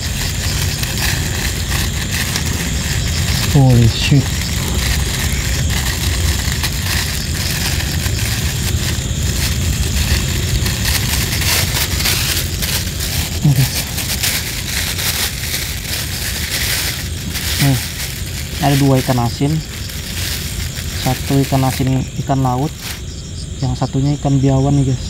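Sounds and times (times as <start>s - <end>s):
plastic bag crinkling: 0.0s - 23.1s.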